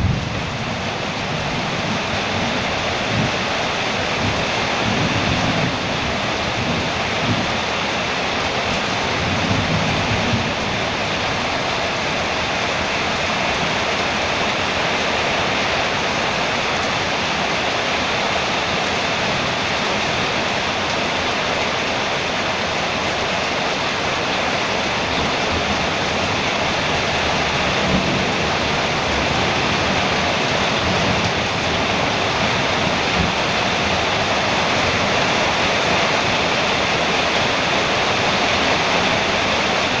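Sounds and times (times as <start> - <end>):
rain on a metal roof: 0.0 - 40.0.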